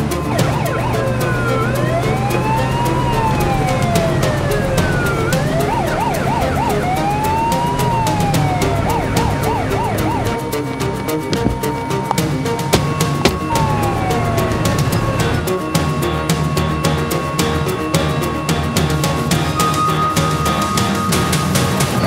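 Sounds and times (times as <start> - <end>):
emergency vehicle siren: 0.0 - 22.0.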